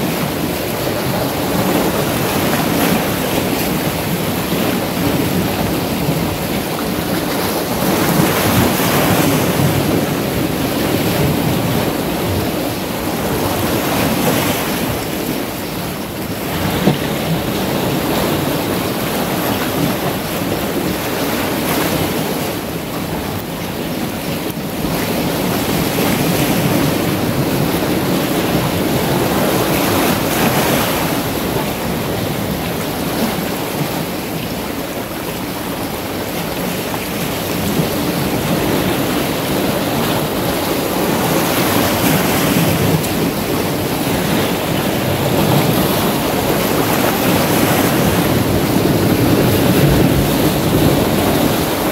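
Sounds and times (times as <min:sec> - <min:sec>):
waves breaking against boulders: 0:00.0 - 0:51.9.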